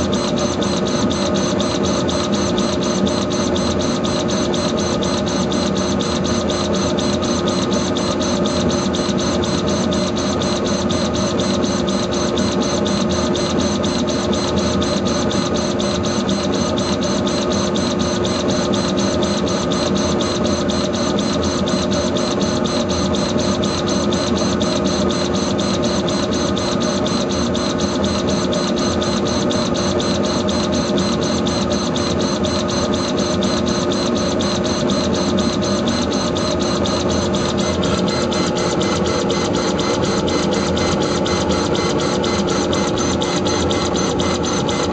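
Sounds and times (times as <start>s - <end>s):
laser engraver whirring hum: 0.0s - 44.9s.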